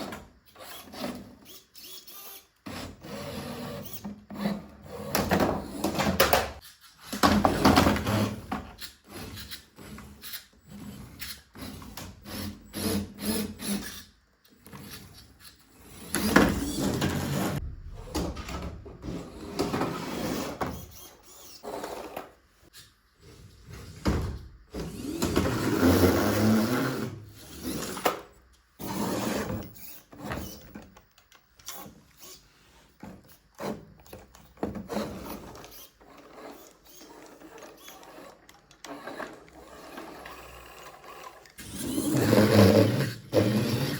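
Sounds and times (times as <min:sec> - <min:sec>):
toy car motors whirring: 0:00.0 - 0:17.6, 0:19.1 - 0:24.0, 0:24.7 - 0:43.9.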